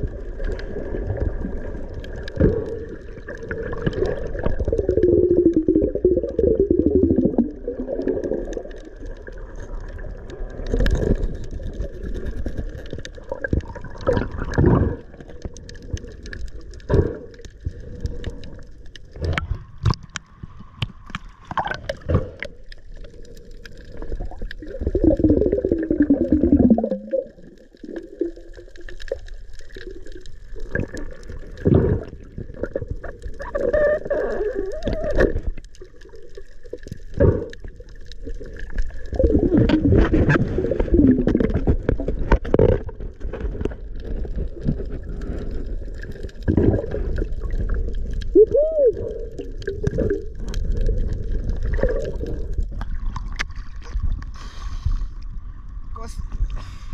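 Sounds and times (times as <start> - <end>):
underwater water sloshing: 0.0 - 56.9.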